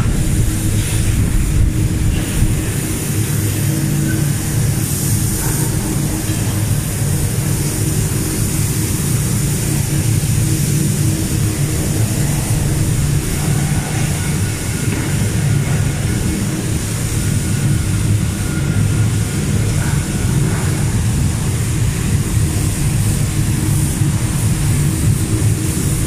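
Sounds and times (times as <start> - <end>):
factory machinery drone: 0.0 - 26.0
ventilation fans hissing: 0.0 - 26.0.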